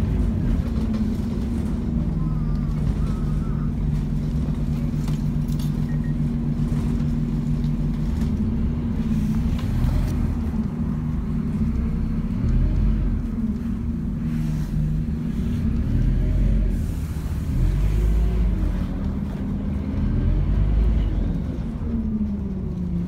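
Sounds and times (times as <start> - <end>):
bus diesel engine running: 0.0 - 23.0
low road rumble: 0.0 - 23.0.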